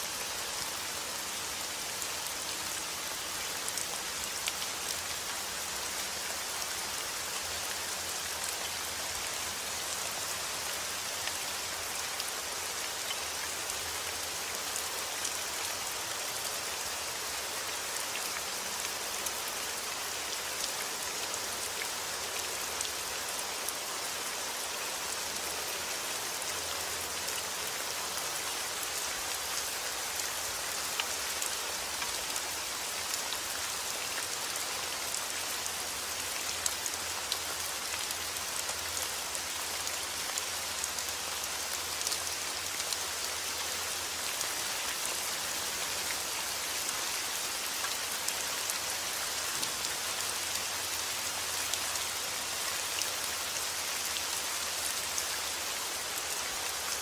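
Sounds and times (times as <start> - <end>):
rain falling on surfaces: 0.0 - 57.0.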